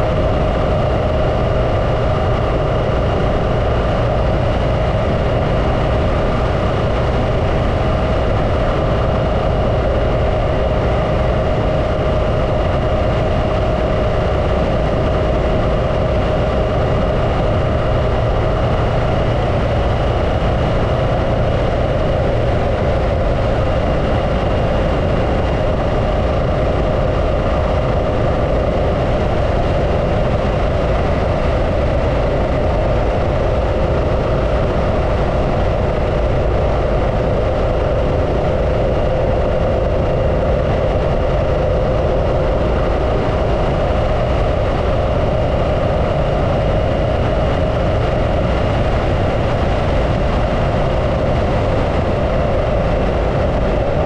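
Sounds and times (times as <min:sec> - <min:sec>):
motorcycle engine low rumble: 0:00.0 - 0:54.0.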